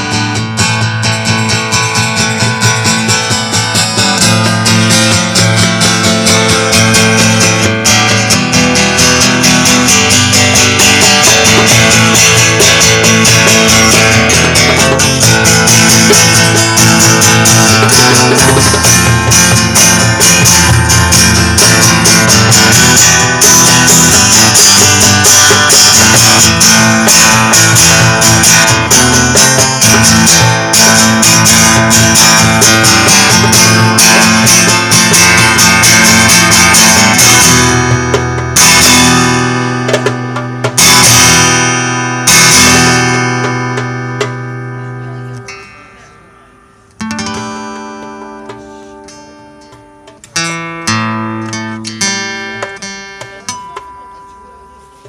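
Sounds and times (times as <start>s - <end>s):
guitar chords ringing out: 0.0s - 55.0s
guitar strumming: 0.0s - 55.0s.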